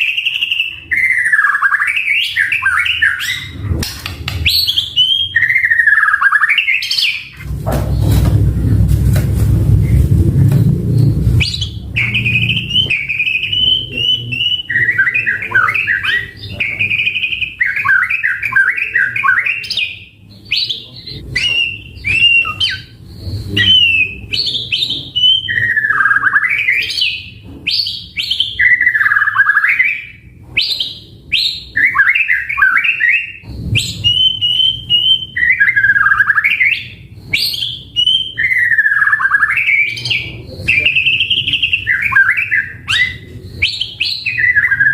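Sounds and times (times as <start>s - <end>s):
songbird singing varied phrases: 0.0s - 3.6s, 4.4s - 7.4s, 10.9s - 44.9s.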